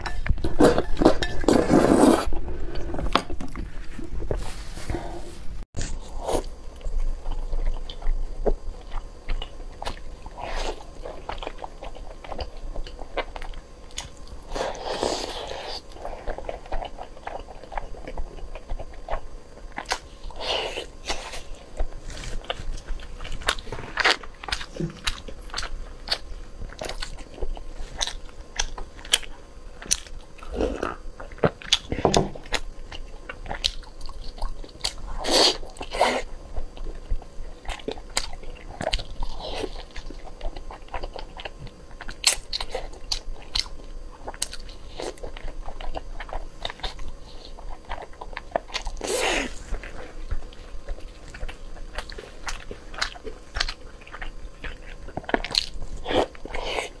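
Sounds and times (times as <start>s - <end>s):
biting and chewing food: 5.8s - 57.0s.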